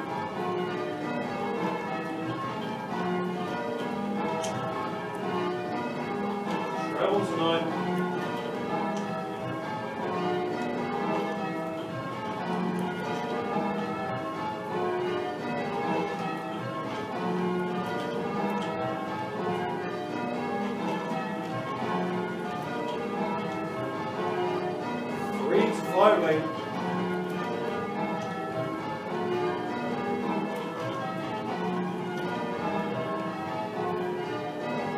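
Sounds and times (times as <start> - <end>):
church bells ringing in rows: 0.0 - 34.9.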